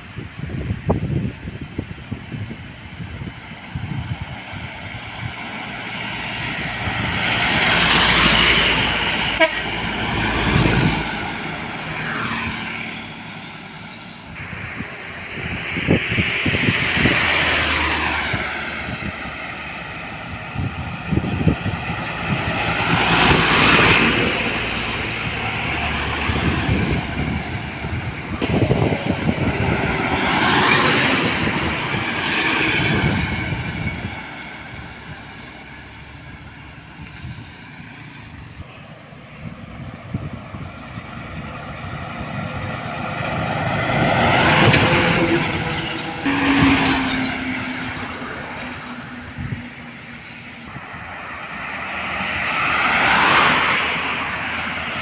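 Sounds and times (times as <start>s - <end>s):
heavy trucks and buses passing: 0.0s - 55.0s.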